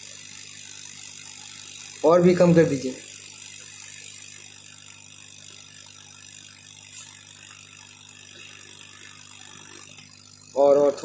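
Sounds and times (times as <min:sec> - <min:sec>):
fan hum: 0:00.0 - 0:11.0.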